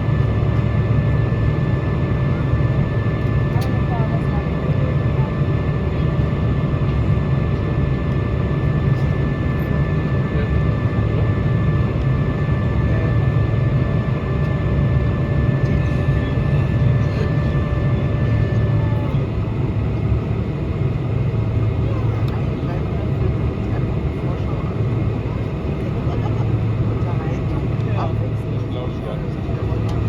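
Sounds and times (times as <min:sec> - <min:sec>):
aircraft cabin rumble: 0:00.0 - 0:30.0.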